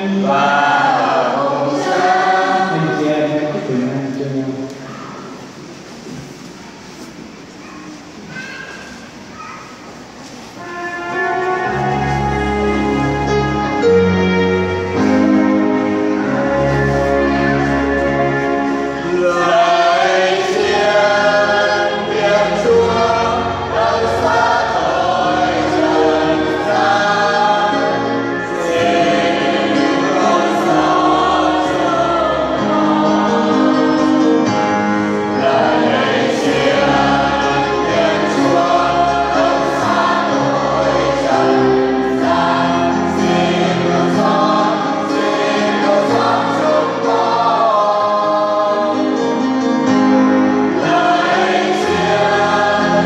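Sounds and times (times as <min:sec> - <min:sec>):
choir singing a hymn: 0:00.0 - 0:04.7, 0:10.6 - 0:53.0.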